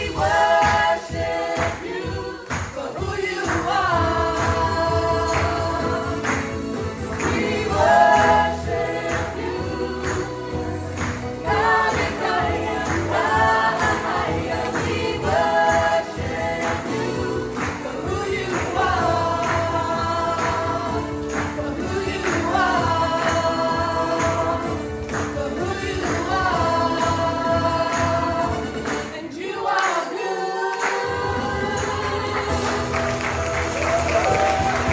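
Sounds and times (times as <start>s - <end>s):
gospel choir singing: 0.0s - 34.9s.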